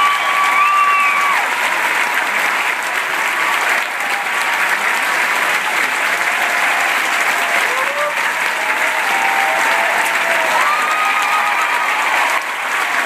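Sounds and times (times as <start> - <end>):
audience applauding and cheering: 0.0 - 13.0.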